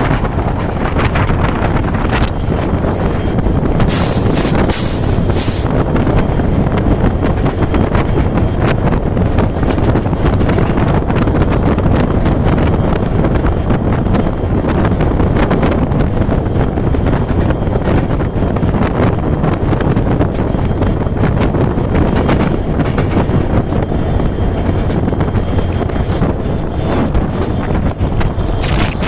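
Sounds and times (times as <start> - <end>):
train wheels rumbling on rails: 0.0 - 29.0
wind buffeting microphone: 0.0 - 29.0.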